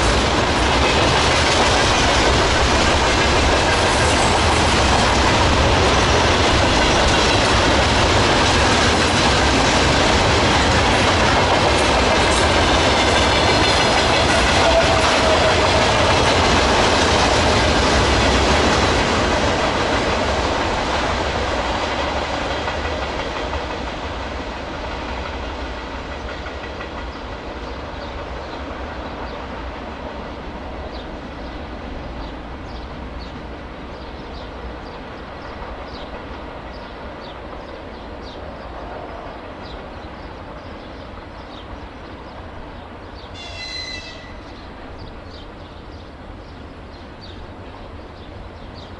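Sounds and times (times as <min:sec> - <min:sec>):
freight train wheels clacking: 0:00.0 - 0:48.9.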